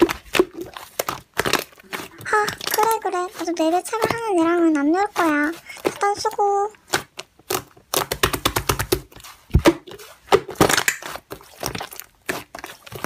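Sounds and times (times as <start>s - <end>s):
slime squeezed with wet pops: 0.0s - 13.0s.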